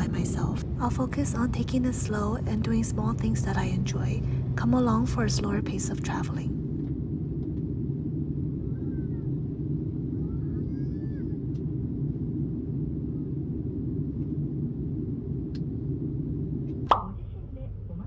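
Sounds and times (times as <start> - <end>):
jet engine rumble in cabin: 0.0 - 18.0.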